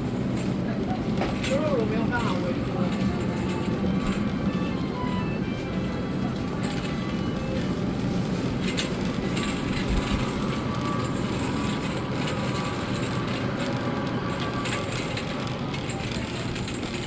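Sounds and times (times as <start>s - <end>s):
shopping cart rolling: 0.0s - 17.0s.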